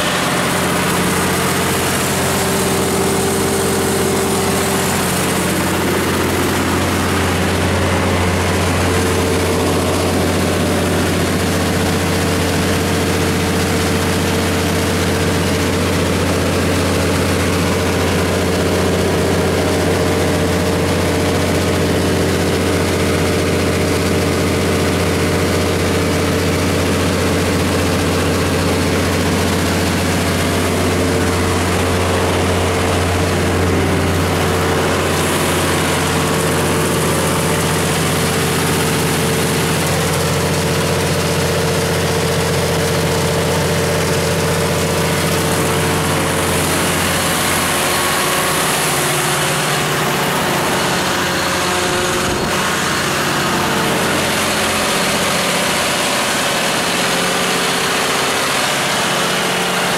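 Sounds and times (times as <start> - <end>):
diesel generator running: 0.0 - 59.9.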